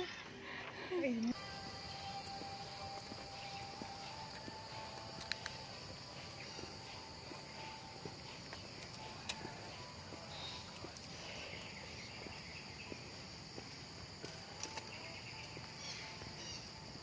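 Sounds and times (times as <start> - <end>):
high-pitched insect drone: 1.0 - 17.0
faint scattered ticks: 1.2 - 17.0.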